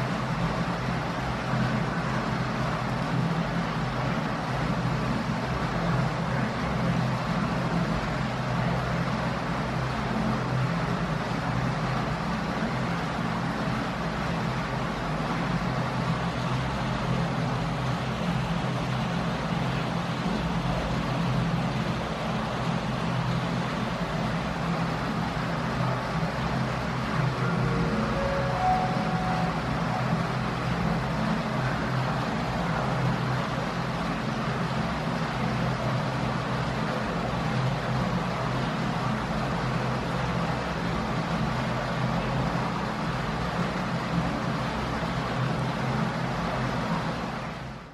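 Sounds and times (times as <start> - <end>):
low mechanical hum: 0.0 - 47.9.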